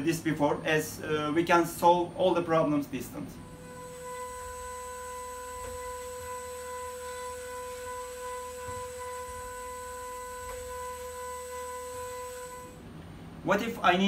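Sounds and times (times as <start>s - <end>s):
milling machine spindle whine: 1.3s - 13.0s.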